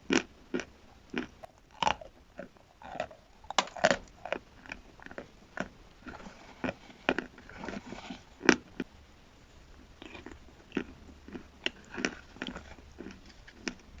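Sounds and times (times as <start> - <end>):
soft grinding chewing: 0.0 - 14.0.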